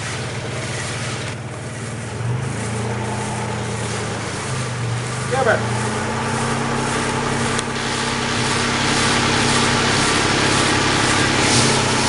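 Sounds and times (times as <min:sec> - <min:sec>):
engine running at high revs: 0:00.0 - 0:12.0.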